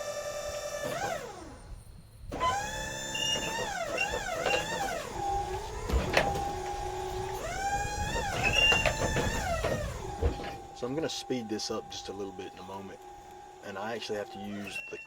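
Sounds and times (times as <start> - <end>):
hydraulic pump motor whining: 0.0 - 15.0.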